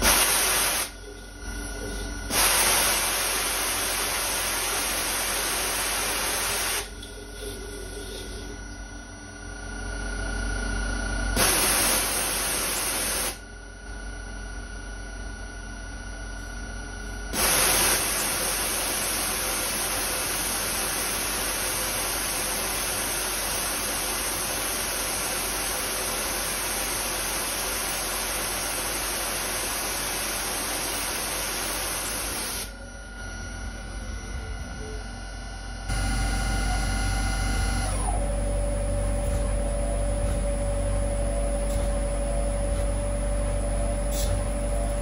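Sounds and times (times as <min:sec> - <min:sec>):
milling machine hum: 0:00.0 - 0:45.0.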